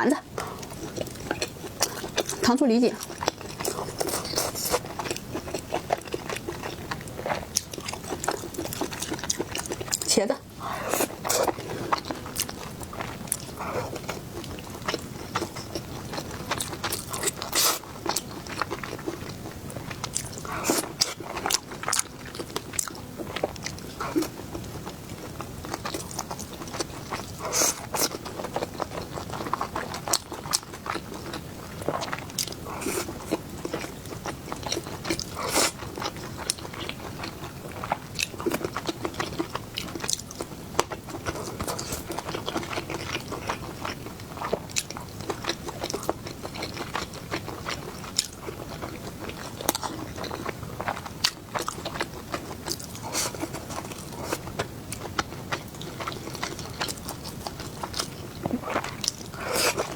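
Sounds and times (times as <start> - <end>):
person chewing fried food: 0.3 - 59.9.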